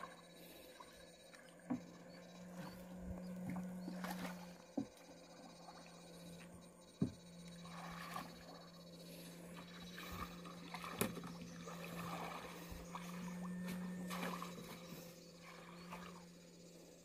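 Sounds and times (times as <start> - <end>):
electrofishing shocker hum: 0.0 - 17.0
faint water sounds: 0.0 - 17.0.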